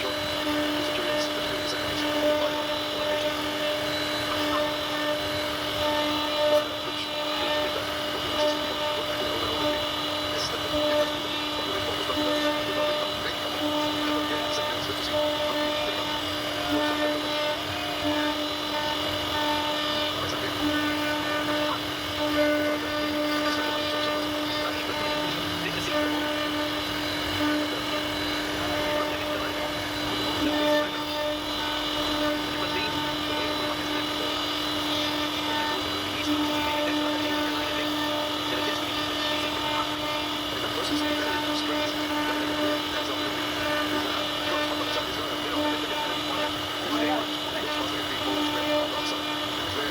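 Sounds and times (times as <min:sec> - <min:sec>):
cnc router spindle whining: 0:00.0 - 0:49.9.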